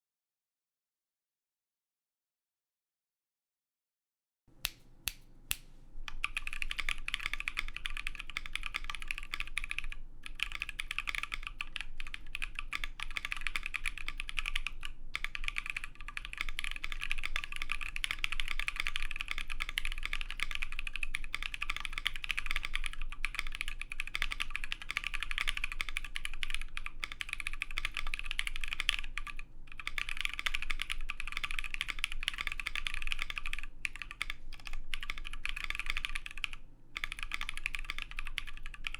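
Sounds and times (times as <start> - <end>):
mechanical keyboard typing: 6.1 - 38.9.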